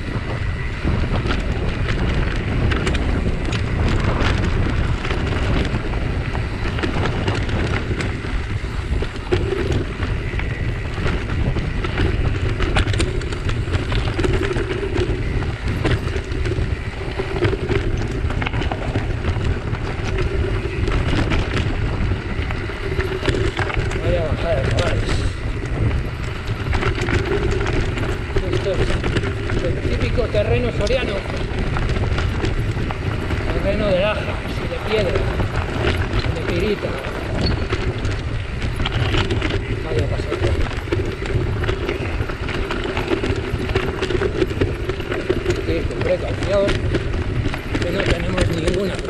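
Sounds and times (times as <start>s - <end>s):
bike rattling over stones: 0.0s - 49.0s
wind buffeting microphone: 0.0s - 49.0s.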